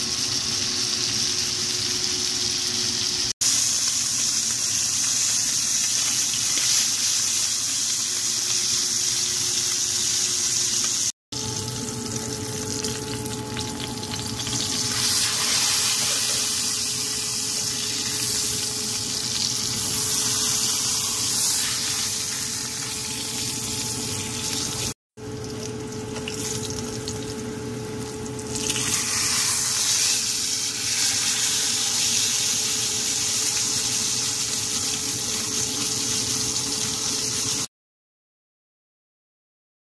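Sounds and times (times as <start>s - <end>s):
meat sizzling in oil: 0.0s - 37.7s.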